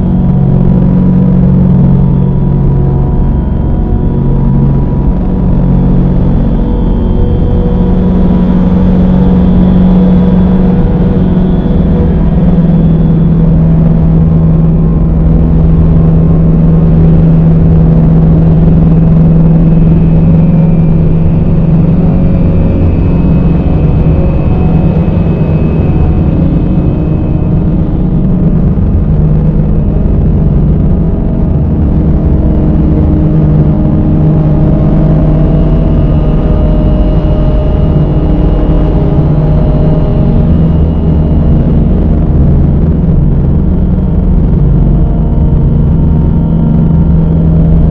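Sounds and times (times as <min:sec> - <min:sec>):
low drone music: 0:00.0 - 0:47.9
rumbling noise bed: 0:00.0 - 0:47.9.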